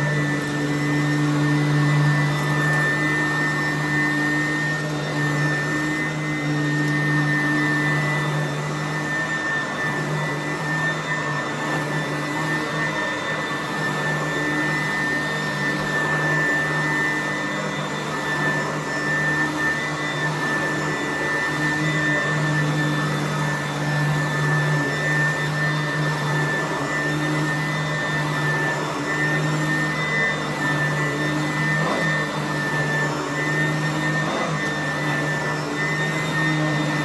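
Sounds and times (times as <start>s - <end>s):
vacuum cleaner on carpet: 0.0s - 37.0s.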